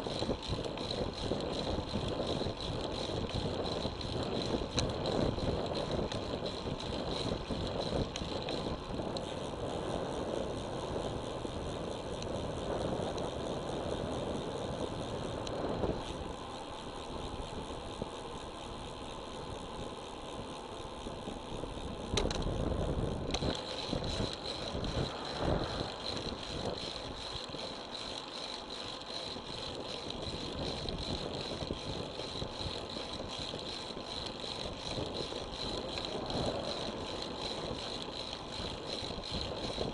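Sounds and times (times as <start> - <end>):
bike rattling: 0.0 - 39.9
wind and tyre noise: 0.0 - 39.9.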